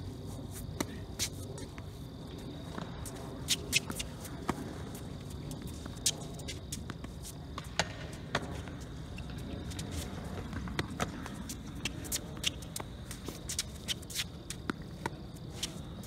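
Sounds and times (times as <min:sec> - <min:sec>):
footsteps on hard court: 0:00.5 - 0:16.0
tennis balls bouncing: 0:01.6 - 0:15.8.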